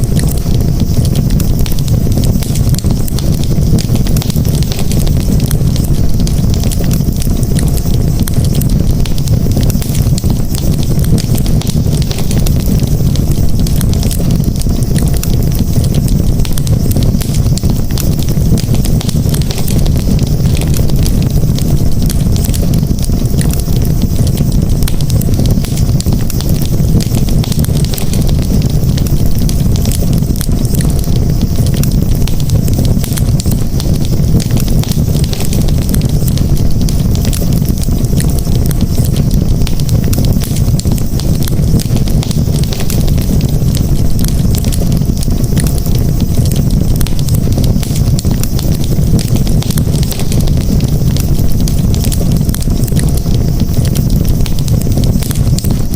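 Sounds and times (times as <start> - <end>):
campfire crackling and popping: 0.0 - 55.9
low roar of flames: 0.0 - 55.9.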